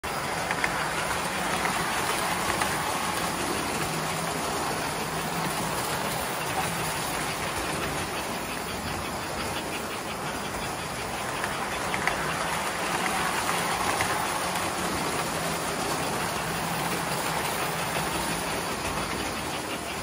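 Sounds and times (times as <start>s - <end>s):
model trains whirring on track: 0.0s - 20.0s
wheels clicking over rail joints: 0.0s - 20.0s.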